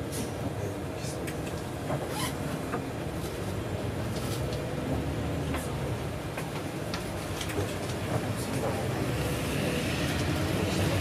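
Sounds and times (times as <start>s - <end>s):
bus engine drone: 0.0s - 11.0s
tyres on wet road: 0.0s - 11.0s.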